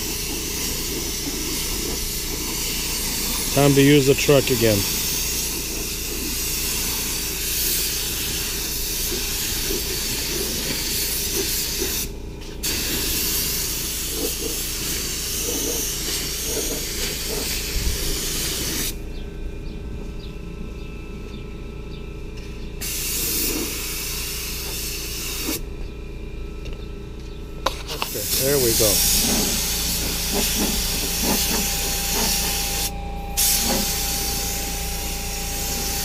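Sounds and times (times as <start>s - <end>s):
paint spray gun hissing: 0.0s - 19.0s, 22.8s - 25.6s, 28.0s - 36.0s.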